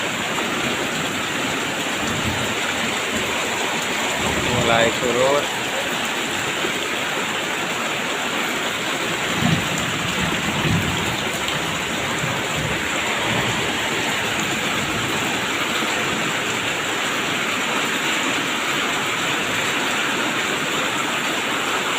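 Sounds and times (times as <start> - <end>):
steady rain falling: 0.0 - 21.9.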